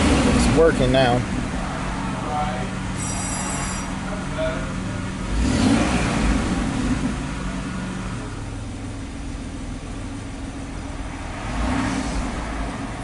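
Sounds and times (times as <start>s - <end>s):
car engine revving and idling: 0.0s - 13.0s.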